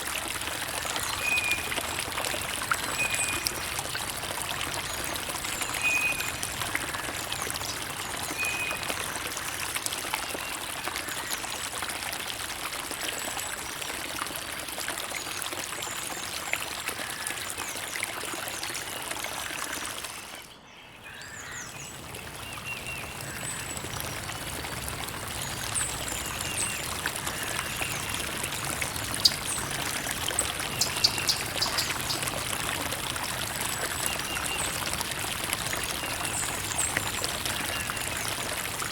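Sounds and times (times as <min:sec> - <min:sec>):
water trickling over stones: 0:00.0 - 0:20.6, 0:21.2 - 0:38.9.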